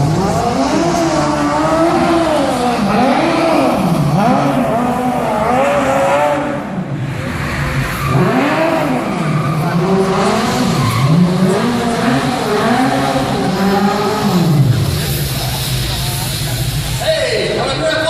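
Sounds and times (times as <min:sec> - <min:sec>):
tyres skidding: 0:00.0 - 0:17.0
car engines revving: 0:00.0 - 0:18.0.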